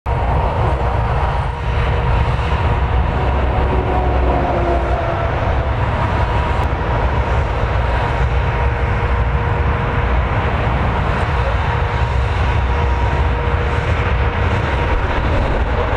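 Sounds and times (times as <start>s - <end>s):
jet engines roaring and whining: 0.1s - 15.9s
wind buffeting microphone: 0.1s - 15.9s.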